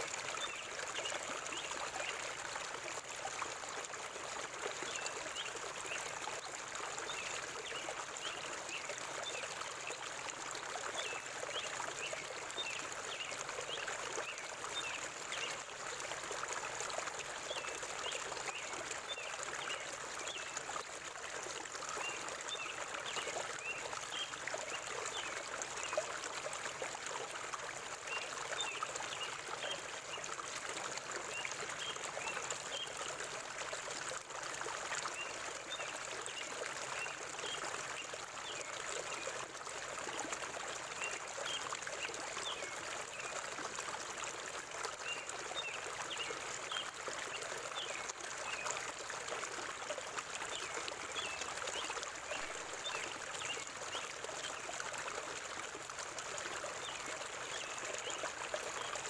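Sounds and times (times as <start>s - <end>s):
river water flowing and trickling: 0.0s - 59.0s.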